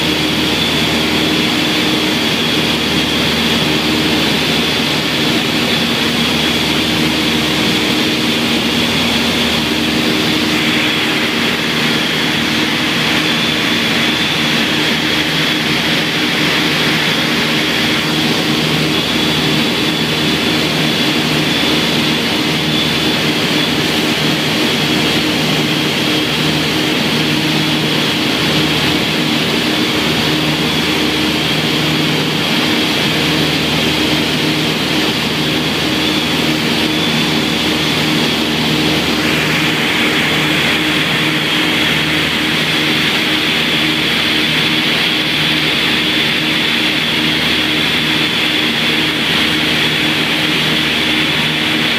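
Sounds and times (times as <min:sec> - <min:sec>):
aircraft engines humming: 0:00.0 - 0:51.9.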